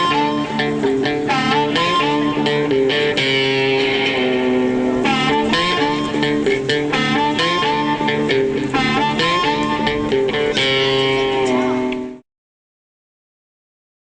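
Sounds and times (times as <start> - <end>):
guitar intro music: 0.0 - 12.2.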